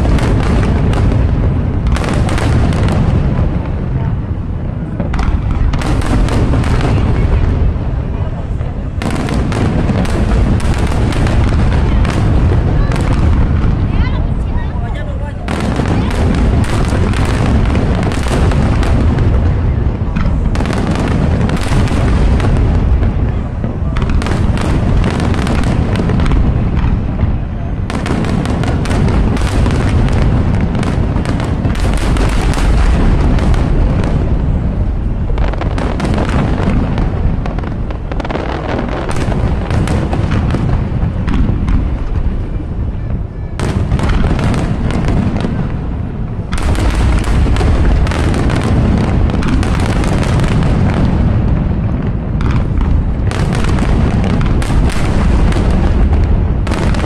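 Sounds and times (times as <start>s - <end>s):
fireworks booming: 0.0s - 57.0s.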